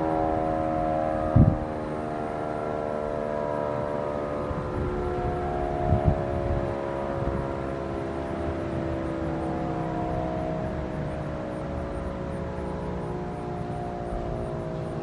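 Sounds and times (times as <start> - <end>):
warning siren winding down: 0.0 - 15.0.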